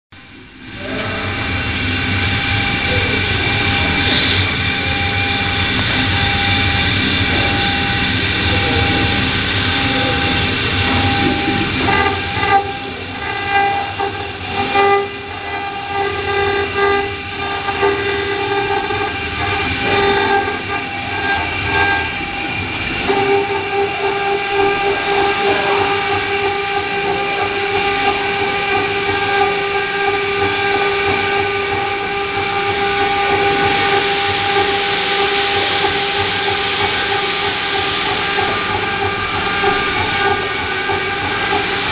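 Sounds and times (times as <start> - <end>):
router motors whining: 0.7 - 41.9.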